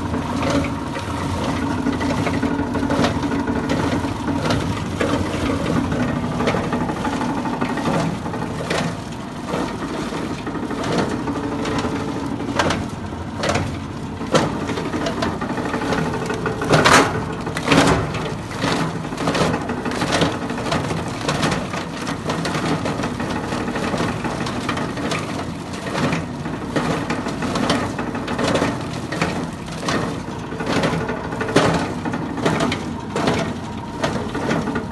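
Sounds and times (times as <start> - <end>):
knocks and cracks of scrap: 0.0 - 34.9
scrap grinder droning: 0.0 - 34.9.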